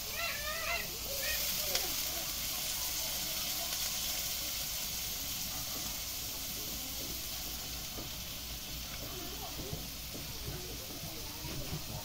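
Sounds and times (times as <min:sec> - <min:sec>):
grubs sizzling in oil: 0:00.0 - 0:12.0.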